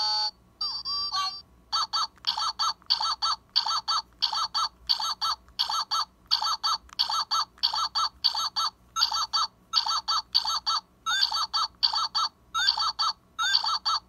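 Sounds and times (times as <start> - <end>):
squeaky electronic toy chirps: 0.2 - 14.0.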